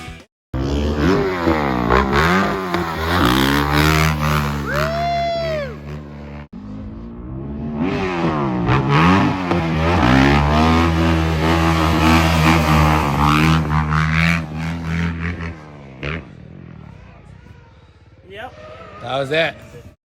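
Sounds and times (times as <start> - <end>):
dirt bike engine revving: 0.6 - 19.7.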